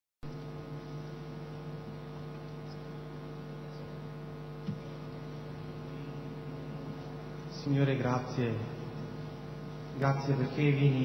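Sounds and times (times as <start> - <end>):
electrical mains hum: 0.2 - 11.0.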